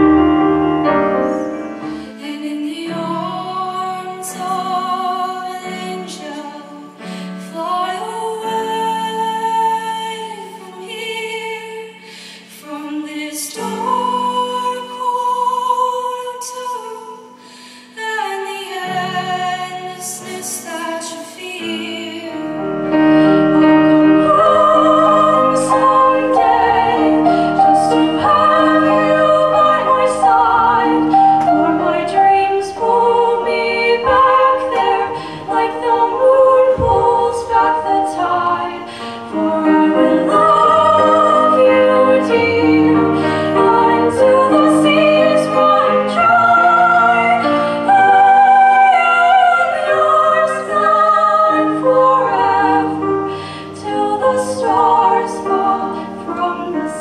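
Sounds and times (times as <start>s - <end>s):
women singing operatic duet: 2.1s - 23.1s, 23.7s - 57.0s.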